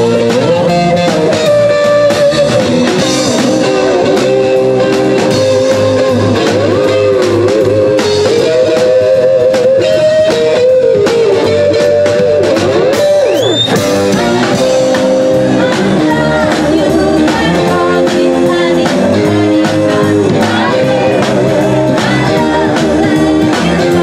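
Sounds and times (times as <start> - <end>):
bass: 0.0 - 24.0
drums: 0.0 - 24.0
electric guitar lead: 0.0 - 24.0.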